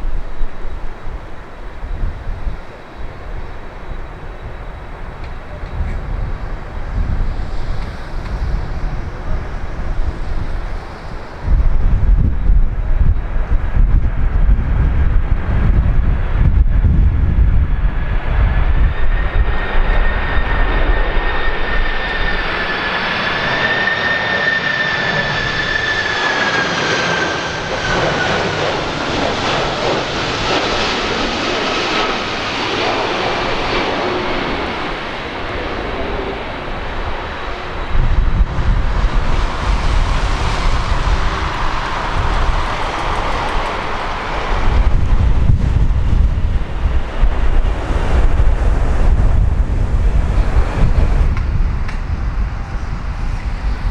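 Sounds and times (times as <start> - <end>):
jet engine whine passing: 0.0 - 53.9
wind buffeting microphone: 0.0 - 53.9.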